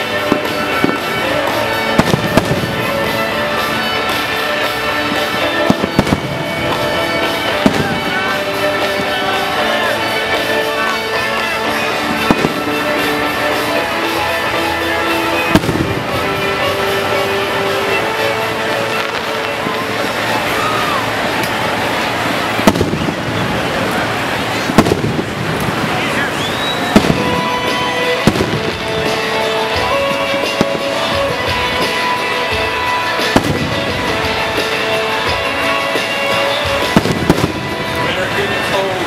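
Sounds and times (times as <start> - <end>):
fireworks bursting with bangs: 0.0 - 39.0
music playing: 0.0 - 39.0.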